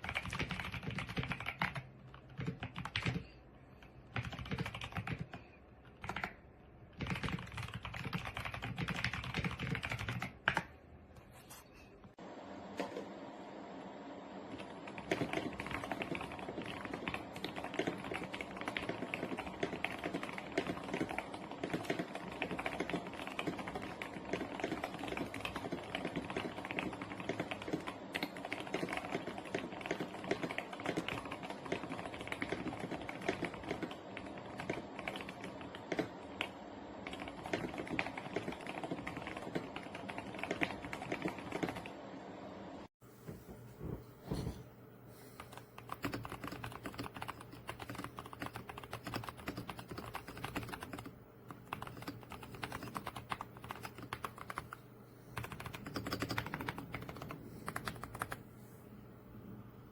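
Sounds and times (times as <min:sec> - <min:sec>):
fast mechanical keyboard typing: 0:00.0 - 0:03.4, 0:04.0 - 0:10.7, 0:14.5 - 0:42.0, 0:45.4 - 0:54.8, 0:55.4 - 0:58.4.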